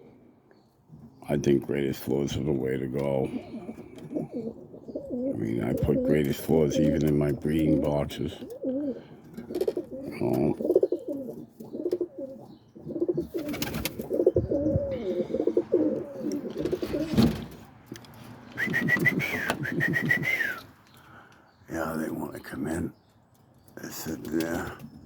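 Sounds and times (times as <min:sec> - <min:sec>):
pigeons cooing: 0:01.0 - 0:22.8.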